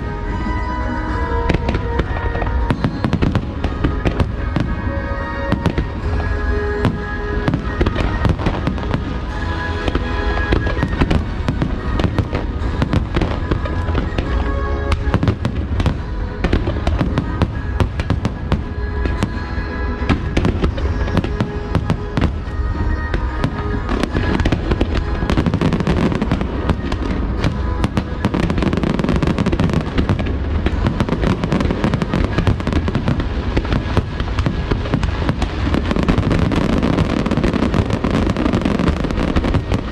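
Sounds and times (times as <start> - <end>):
fireworks bangs: 0.0 - 39.9
show music playing: 0.0 - 39.9.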